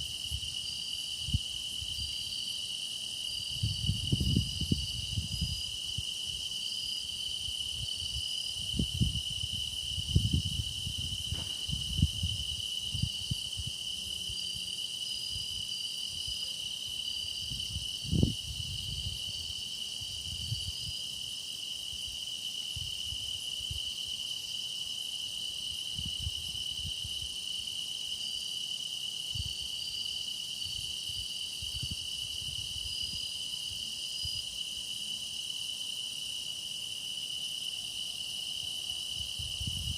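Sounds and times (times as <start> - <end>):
crickets trilling: 0.0 - 39.9
high pulsing insect call: 0.0 - 39.9.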